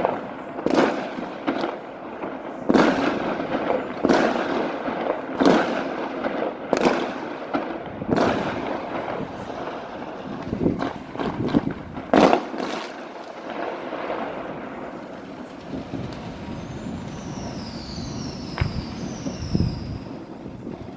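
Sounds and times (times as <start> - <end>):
firecracker and rocket bangs: 0.0 - 20.9
rumble of fireworks din: 0.0 - 20.9
whistling rockets: 0.0 - 20.9.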